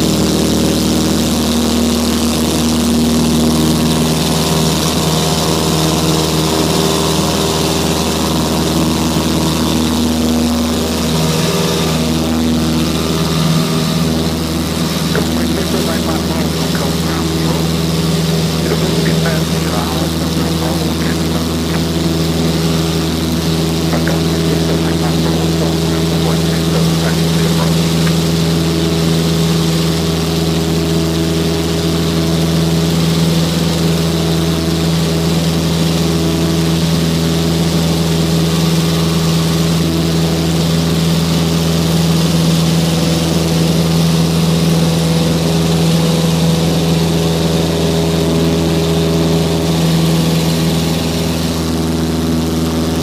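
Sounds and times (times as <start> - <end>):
airplane propeller engine drone: 0.0 - 53.0.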